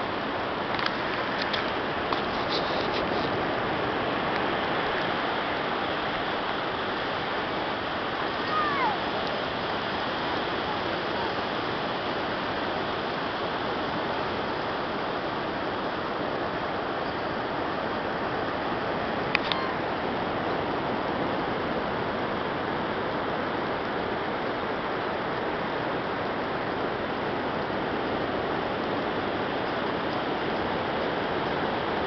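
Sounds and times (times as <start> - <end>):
surf rushing on beach: 0.0 - 32.0.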